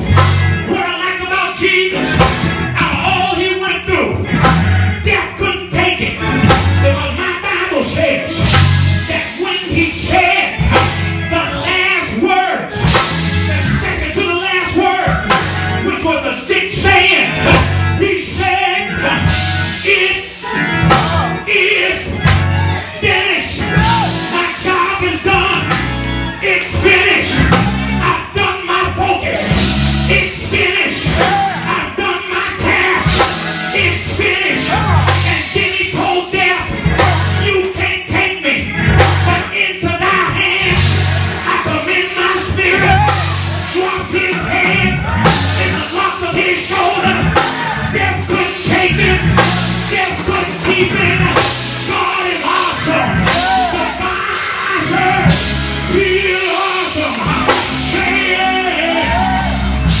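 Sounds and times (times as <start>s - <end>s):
live band with drums and bass: 0.0s - 60.0s
man singing through microphone: 5.0s - 15.2s, 15.8s - 59.8s.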